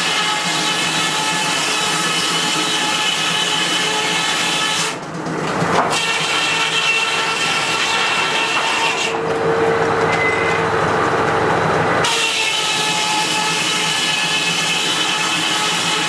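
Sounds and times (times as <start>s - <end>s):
circular saw cutting log: 0.0s - 5.0s, 5.7s - 9.4s, 10.6s - 16.0s.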